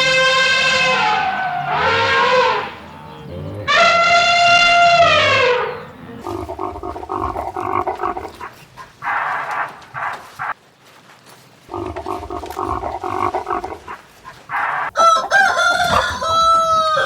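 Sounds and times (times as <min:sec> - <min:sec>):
farm animals calling: 0:00.0 - 0:11.0, 0:11.6 - 0:17.0.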